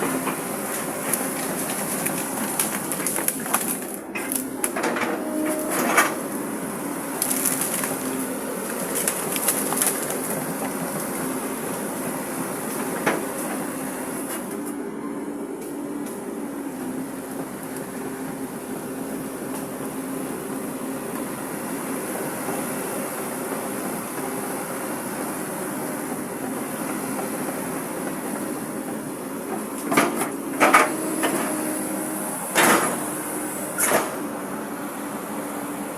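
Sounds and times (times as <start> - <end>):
excavator diesel engine droning: 0.0 - 35.9.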